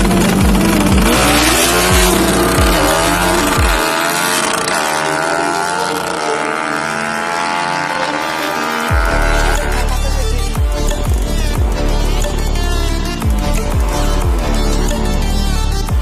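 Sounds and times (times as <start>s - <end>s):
motorcycle engine revving: 0.0s - 16.0s
music with pulsing bass beat: 0.0s - 16.0s.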